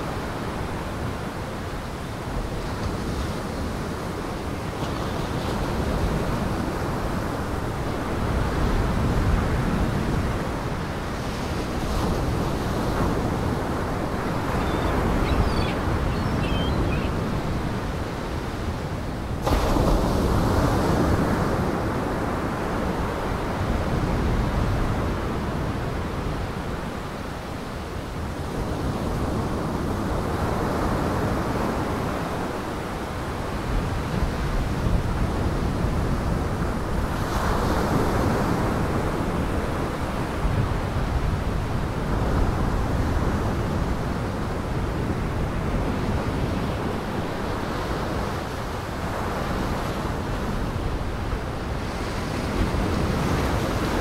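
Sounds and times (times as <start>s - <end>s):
waves breaking on shore: 0.0s - 54.0s
wind: 0.0s - 54.0s.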